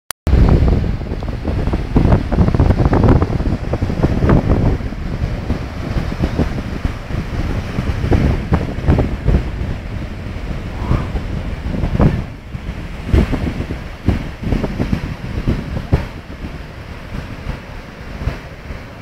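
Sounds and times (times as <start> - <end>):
surf washing onto beach: 0.3 - 19.0
wind buffeting microphone: 0.3 - 19.0.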